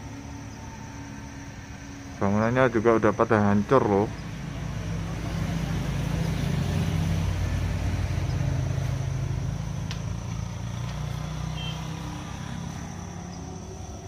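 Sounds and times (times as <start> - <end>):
passing vehicle engine drone: 0.0 - 14.0.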